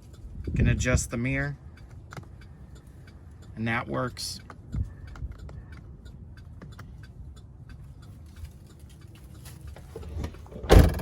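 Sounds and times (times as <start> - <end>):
turn signal ticking: 0.0 - 10.4.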